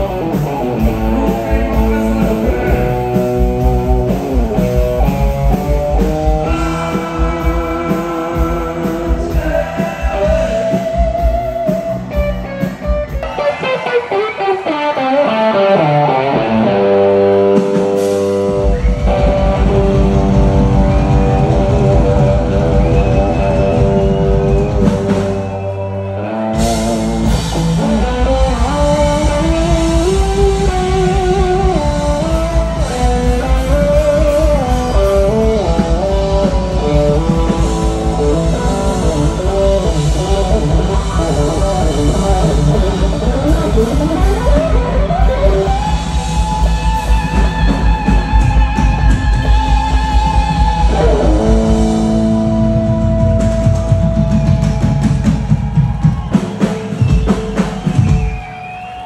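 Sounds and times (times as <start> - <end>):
electric guitar lead melody: 0.0 - 55.3
live rock band playing: 0.0 - 59.0.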